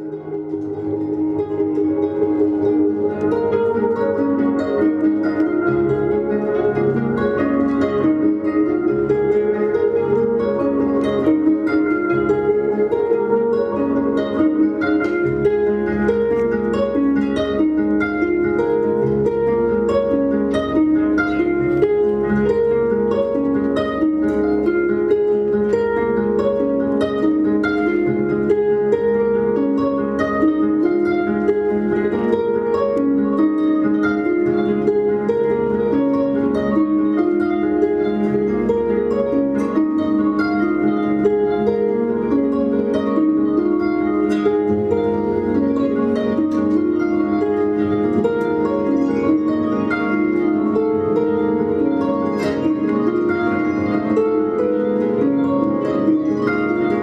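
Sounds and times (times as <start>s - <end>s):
harps playing a duet: 0.0s - 57.0s.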